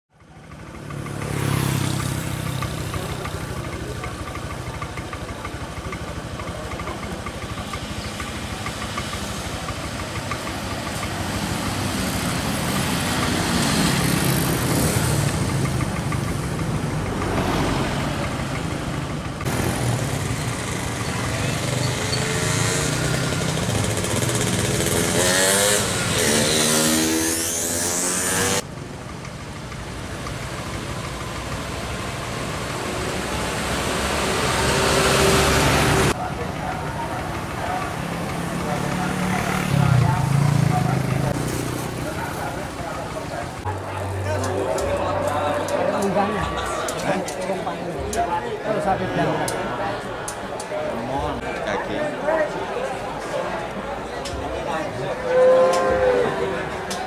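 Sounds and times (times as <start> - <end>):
vehicle engines running: 0.1 - 57.0.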